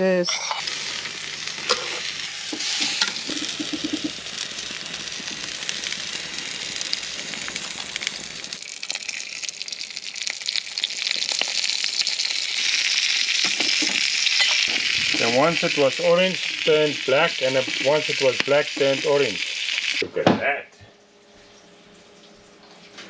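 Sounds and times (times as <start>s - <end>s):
butter sizzling and crackling: 0.3s - 20.0s.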